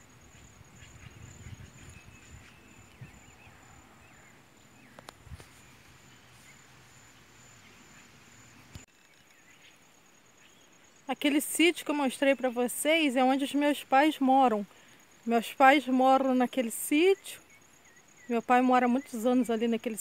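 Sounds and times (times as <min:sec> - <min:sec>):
faint bird chirps: 0:00.0 - 0:13.1, 0:16.6 - 0:19.6.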